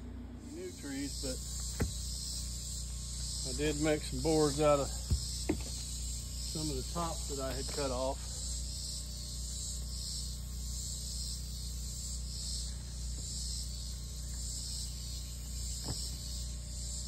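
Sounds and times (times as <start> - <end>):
insects buzzing in pulses: 0.0 - 17.0
steady low hum: 0.0 - 17.0.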